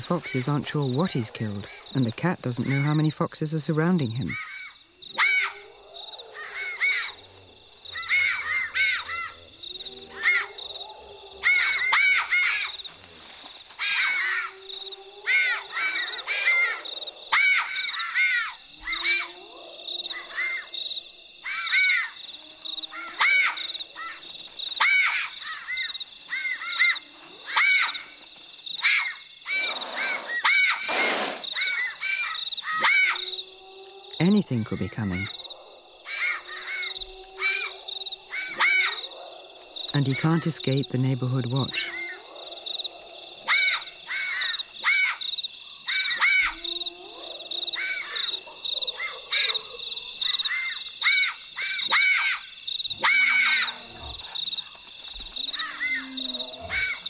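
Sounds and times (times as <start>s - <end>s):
high chirping animal calls: 0.0s - 12.9s, 13.7s - 28.2s, 28.8s - 57.0s.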